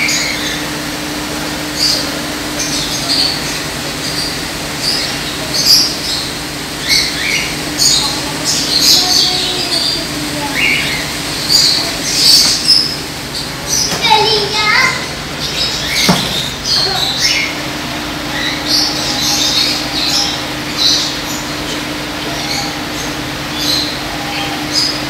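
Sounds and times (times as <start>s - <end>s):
parrots chirping and squawking: 0.0s - 25.0s
steady low hum: 0.0s - 25.0s.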